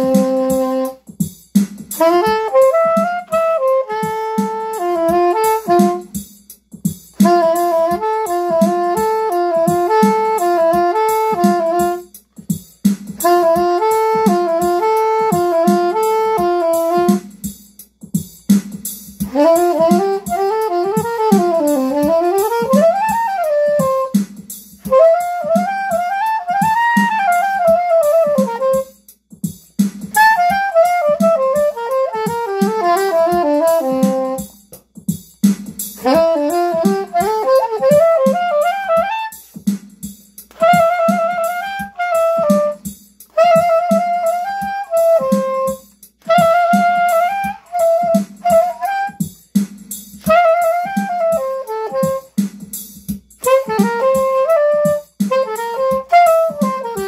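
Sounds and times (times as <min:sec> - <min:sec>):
soprano saxophone melody: 0:00.0 - 0:01.0, 0:02.0 - 0:06.2, 0:07.2 - 0:12.1, 0:13.2 - 0:17.3, 0:19.2 - 0:24.2, 0:24.8 - 0:29.0, 0:30.2 - 0:34.5, 0:36.0 - 0:39.4, 0:40.5 - 0:49.3, 0:50.2 - 0:52.4, 0:53.4 - 0:57.0
steady drum beat: 0:00.0 - 0:57.0.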